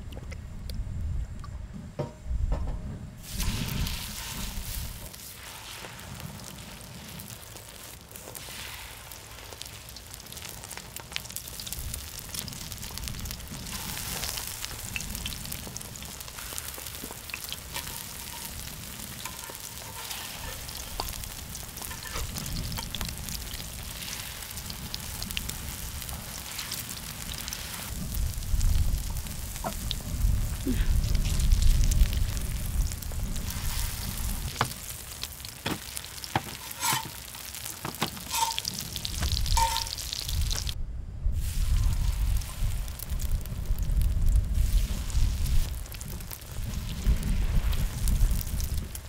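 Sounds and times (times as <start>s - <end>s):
batter sizzling in oil: 3.2s - 40.8s, 41.4s - 49.0s.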